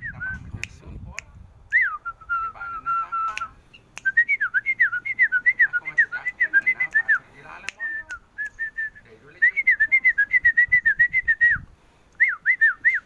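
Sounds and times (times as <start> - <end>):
bird singing whistled notes: 0.0 - 0.6, 1.7 - 11.6, 12.2 - 13.0.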